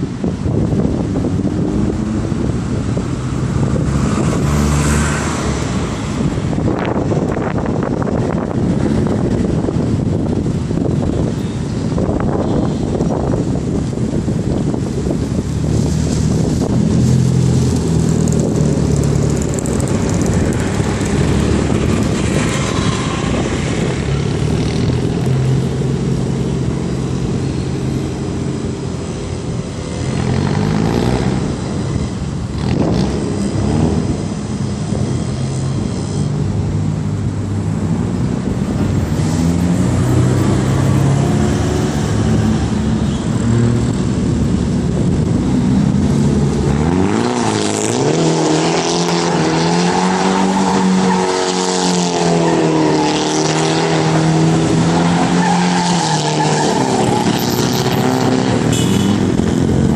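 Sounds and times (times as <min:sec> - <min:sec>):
tyre and wind noise: 0:00.0 - 0:59.9.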